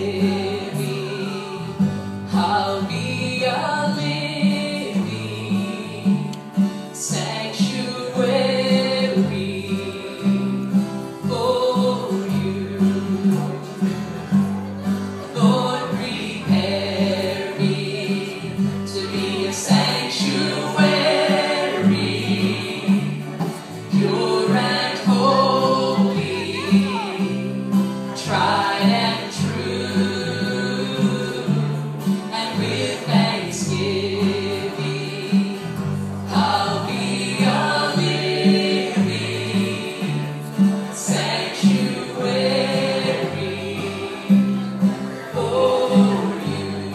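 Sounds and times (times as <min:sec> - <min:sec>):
gospel group singing: 0:00.0 - 0:46.9.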